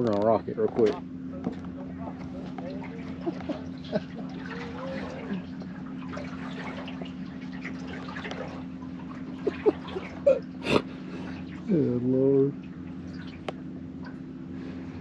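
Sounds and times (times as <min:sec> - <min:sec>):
steady low hum: 0:00.0 - 0:15.0
water lapping against boat hull: 0:00.0 - 0:15.0.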